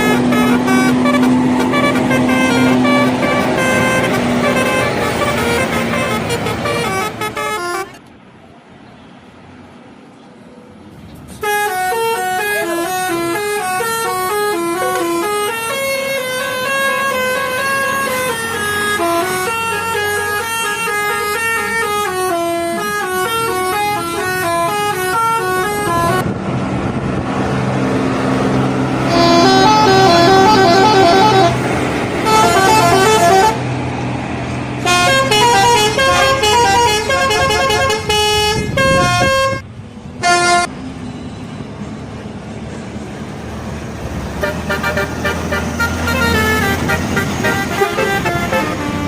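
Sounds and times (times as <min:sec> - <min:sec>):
bus horns playing multi-note tunes: 0:00.0 - 0:08.0, 0:11.4 - 0:26.3, 0:28.6 - 0:40.7, 0:44.2 - 0:49.0
engine noise: 0:00.0 - 0:49.0.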